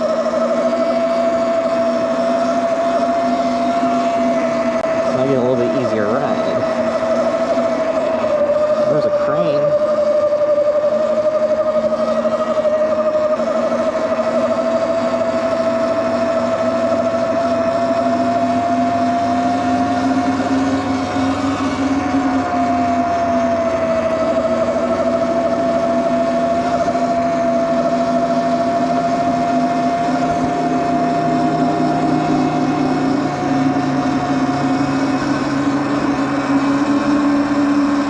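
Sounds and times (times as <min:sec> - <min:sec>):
electric motor whining: 0:00.0 - 0:38.0
steady rushing noise: 0:00.0 - 0:38.0.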